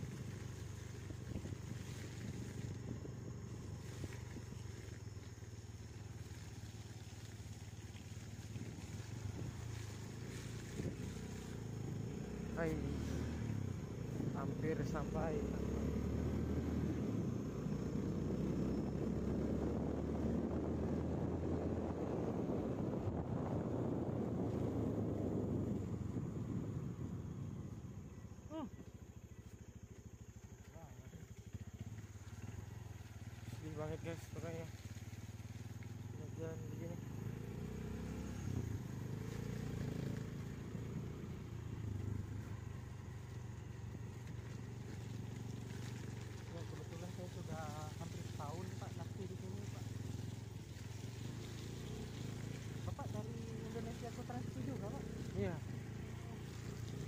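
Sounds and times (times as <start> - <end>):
van engine and road drone: 0.0 - 57.0.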